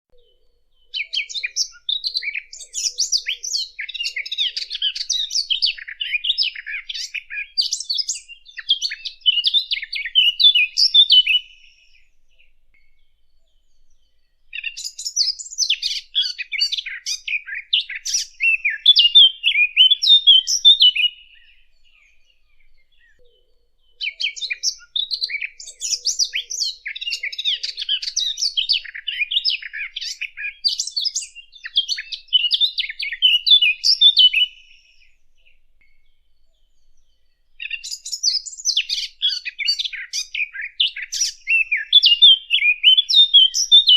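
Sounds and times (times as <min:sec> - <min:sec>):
warbler singing rapid varied warbling: 0:00.2 - 0:43.9.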